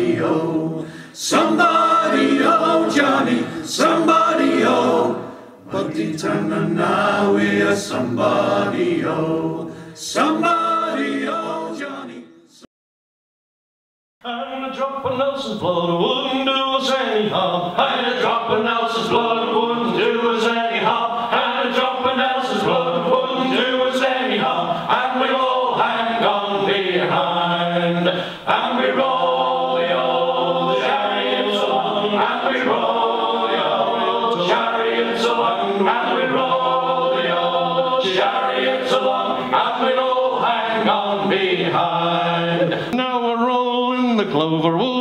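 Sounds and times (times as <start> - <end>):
male group singing a cappella: 0.0 - 12.7, 15.1 - 45.0.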